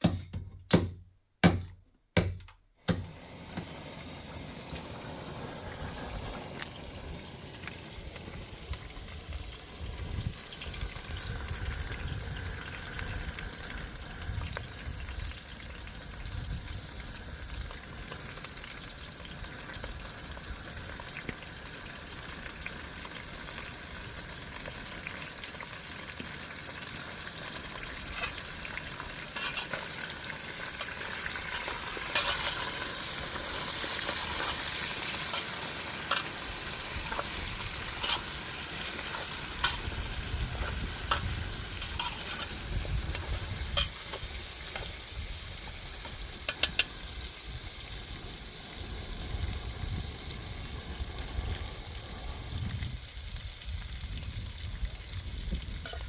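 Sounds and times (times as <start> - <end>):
food sizzling in a pan: 3.0 - 56.0.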